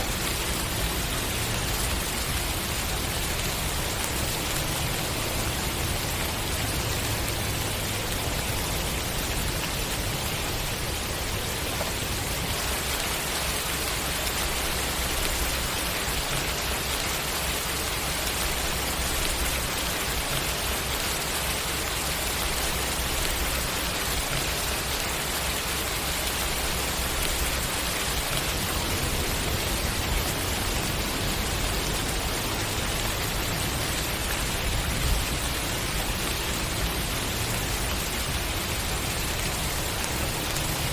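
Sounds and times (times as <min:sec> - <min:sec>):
rain pattering on surfaces: 0:00.0 - 0:40.9.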